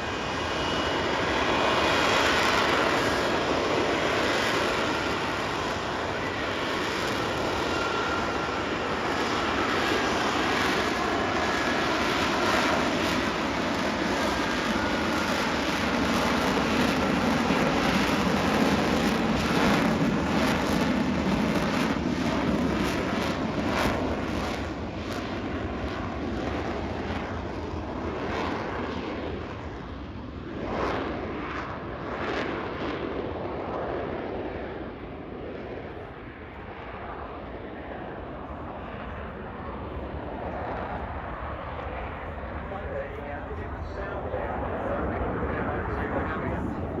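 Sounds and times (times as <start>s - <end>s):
jet engine roar with crackle: 0.0s - 47.0s.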